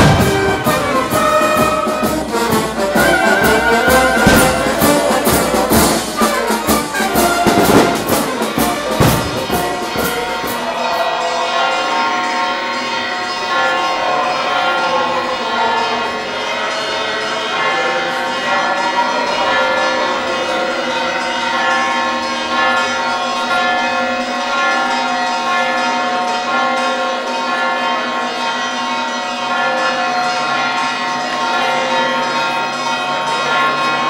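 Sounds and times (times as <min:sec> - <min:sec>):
bells ringing: 0:00.0 - 0:34.0
festive procession music: 0:00.0 - 0:34.0.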